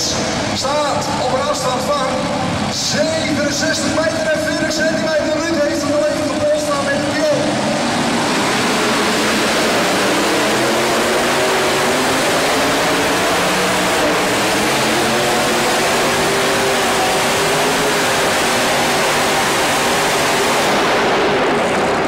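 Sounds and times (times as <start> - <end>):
pulling tractor engine roaring: 0.0 - 22.0.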